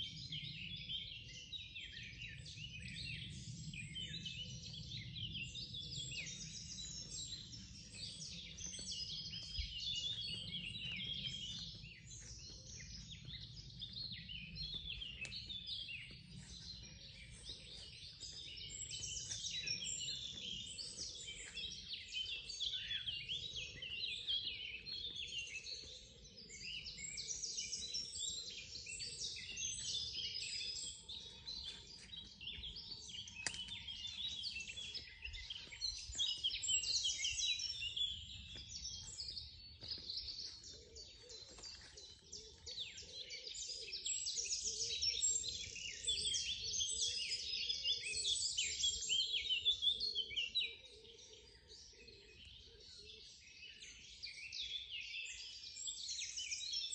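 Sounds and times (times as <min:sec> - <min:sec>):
songbirds chirping and trilling: 0:00.0 - 0:56.9.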